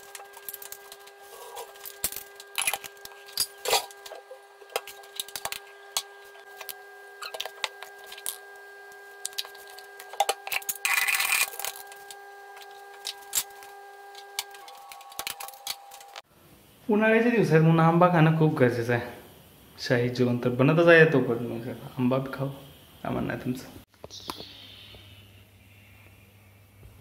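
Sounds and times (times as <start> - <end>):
steady hum: 0.0 - 23.5.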